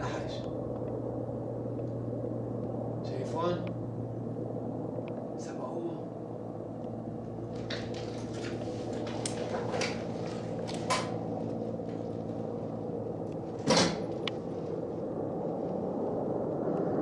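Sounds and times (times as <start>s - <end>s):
aircraft engine drone overhead: 0.0s - 17.0s.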